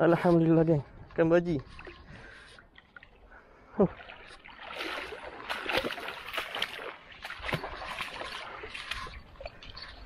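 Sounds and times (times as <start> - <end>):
water splashing: 1.6 - 10.0.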